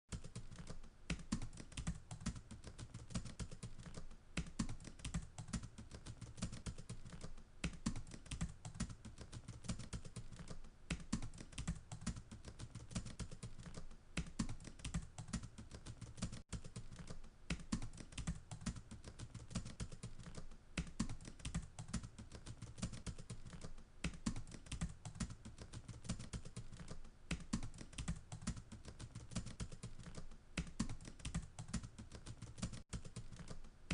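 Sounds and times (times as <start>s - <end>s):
rapid uneven clicking and tapping: 0.1s - 33.9s.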